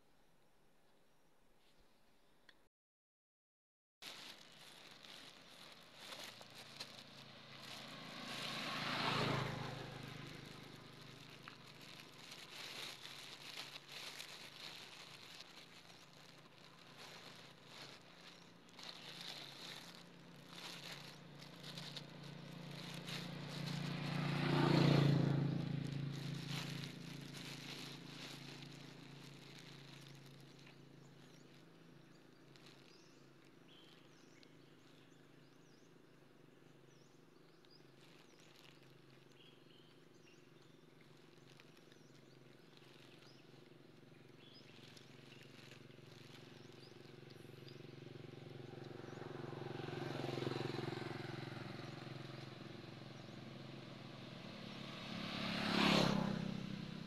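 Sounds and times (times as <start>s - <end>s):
motor vehicle passing by: 4.1s - 57.0s.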